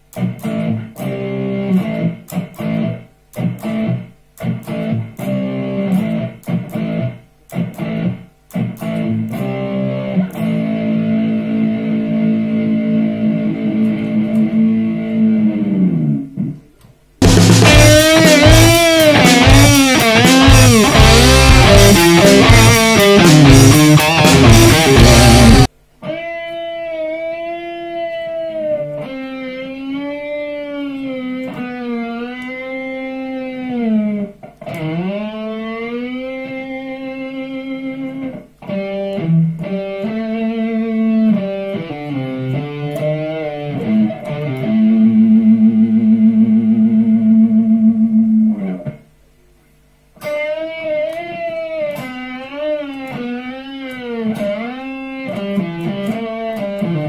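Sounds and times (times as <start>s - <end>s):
electric guitar solo melody: 0.1s - 16.6s, 17.2s - 49.0s, 50.2s - 57.0s.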